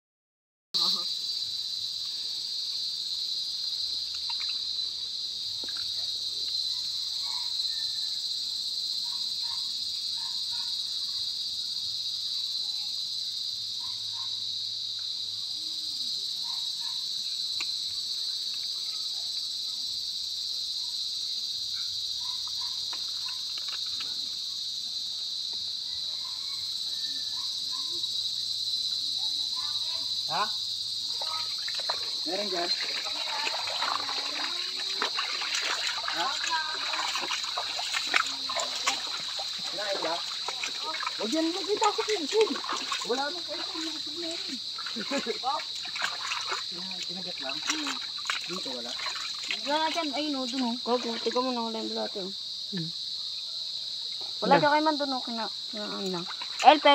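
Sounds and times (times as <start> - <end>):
insects chirring: 0.8 - 56.9.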